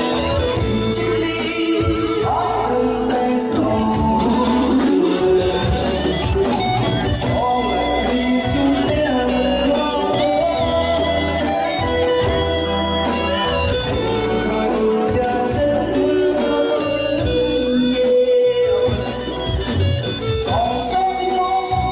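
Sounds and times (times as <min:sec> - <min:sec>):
live band music: 0:00.0 - 0:21.9.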